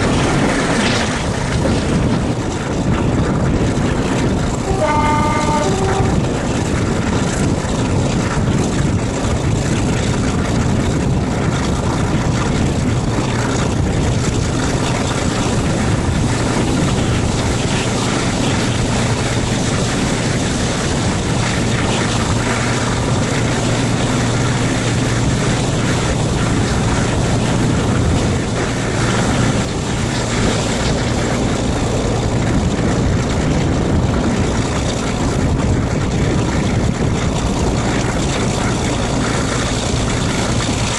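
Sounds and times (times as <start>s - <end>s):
diesel locomotive drone: 0.0s - 40.9s.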